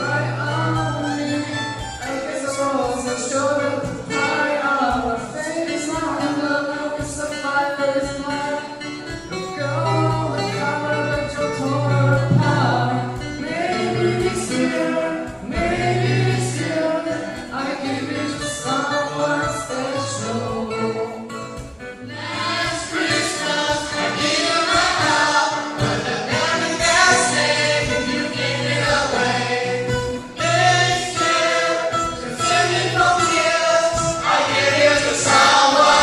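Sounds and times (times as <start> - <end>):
group of voices singing: 0.0 - 7.2, 9.5 - 21.3, 22.0 - 36.0
guitar accompaniment: 0.0 - 36.0.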